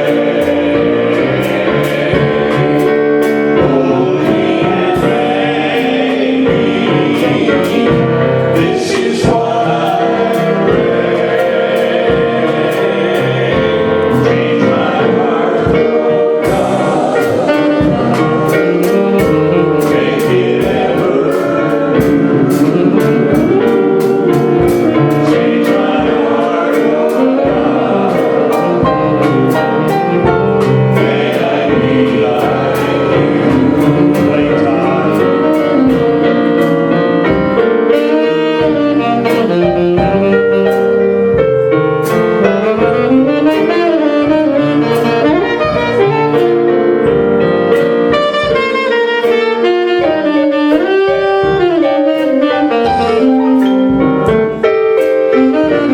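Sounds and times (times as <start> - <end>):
keyboard accompaniment: 0.0 - 55.9
saxophone melody: 0.0 - 55.9
steady light beat: 0.0 - 55.9.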